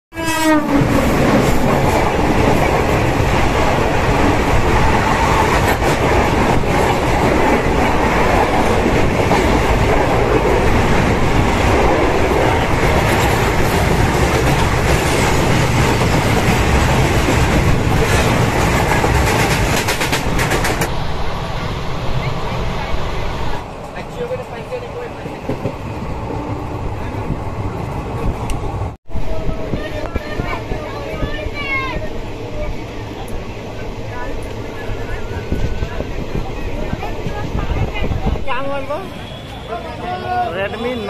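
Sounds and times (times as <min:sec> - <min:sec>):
passing train: 0:00.1 - 0:41.0
train rumble and rail clatter: 0:00.1 - 0:41.0.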